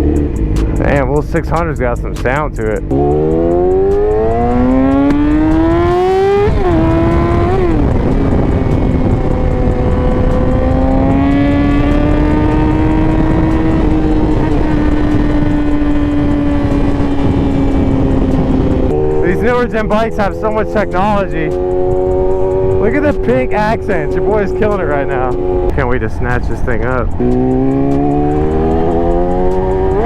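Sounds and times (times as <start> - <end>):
motorcycle engine accelerating: 0.0 - 30.0
wind rushing over microphone: 0.0 - 30.0.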